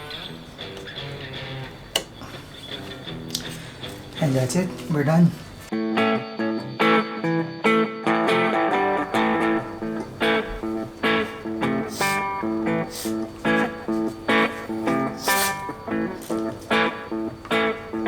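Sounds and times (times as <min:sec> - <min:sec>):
plucked guitar music: 0:00.0 - 0:05.0, 0:05.7 - 0:18.0.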